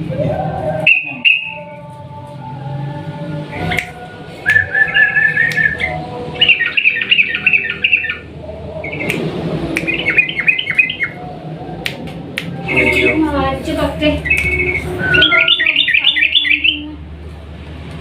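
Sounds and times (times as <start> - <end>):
bulbul singing rolling song: 0.0 - 18.0.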